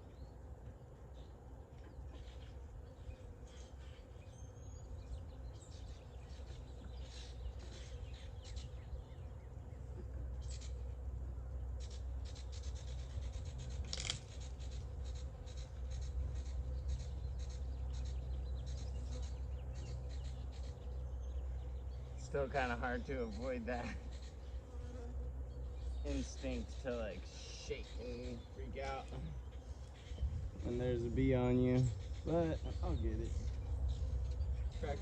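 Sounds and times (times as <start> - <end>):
honeybees humming: 0.0 - 35.0.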